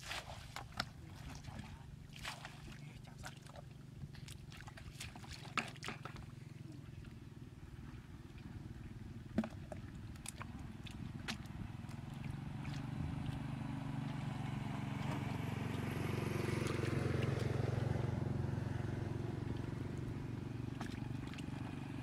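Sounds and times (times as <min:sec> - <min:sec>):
bare feet splashing in mud: 0:00.0 - 0:06.6, 0:09.3 - 0:18.2, 0:19.2 - 0:22.0.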